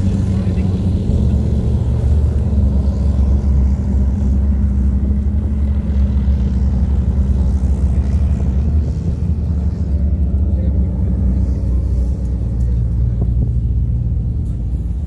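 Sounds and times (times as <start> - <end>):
tracked vehicles rumbling past: 0.0 - 15.0.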